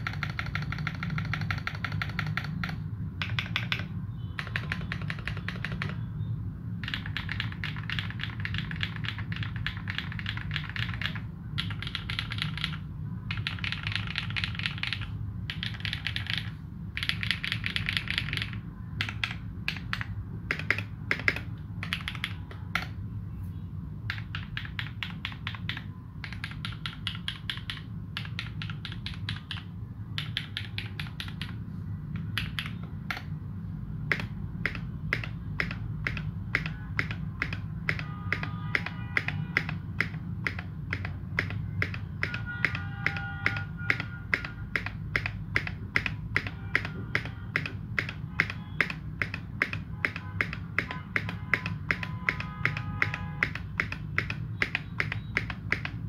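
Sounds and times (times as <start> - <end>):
mechanical keyboard typing: 0.0 - 6.1, 6.7 - 23.0, 24.1 - 33.4, 34.0 - 56.0.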